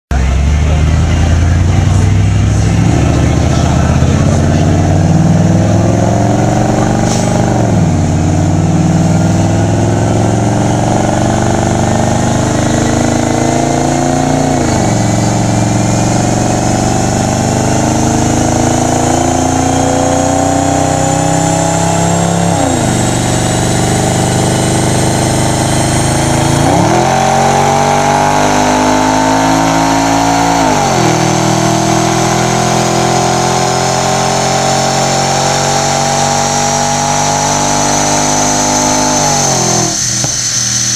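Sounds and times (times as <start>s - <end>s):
car engine revving: 0.1s - 40.9s
tyre and roller whine: 0.1s - 40.9s.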